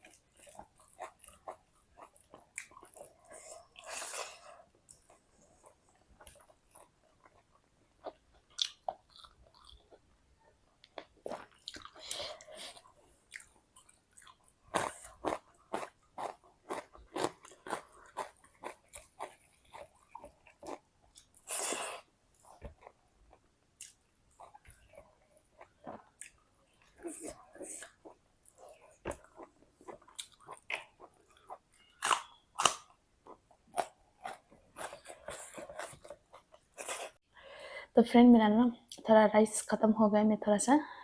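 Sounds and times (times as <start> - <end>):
chewing and crunching food: 0.0 - 10.2, 10.8 - 37.2.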